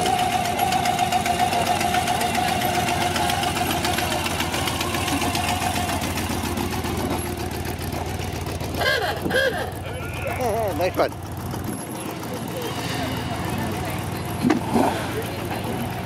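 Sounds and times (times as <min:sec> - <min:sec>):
supercharged car engine running: 0:00.0 - 0:16.0.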